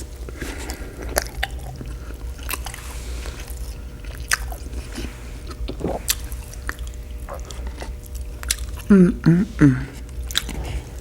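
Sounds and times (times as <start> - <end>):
low steady hum: 0.0 - 11.0
wet chewing: 0.0 - 11.0.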